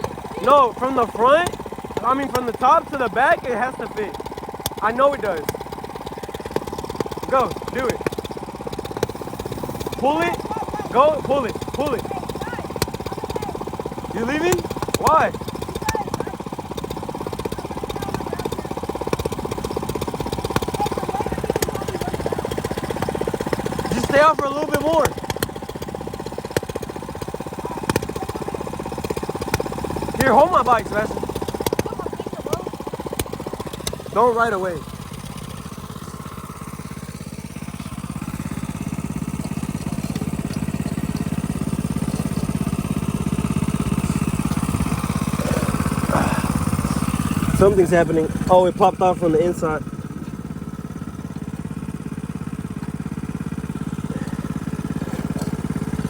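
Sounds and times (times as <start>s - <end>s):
minibike engine idling: 0.0s - 56.0s.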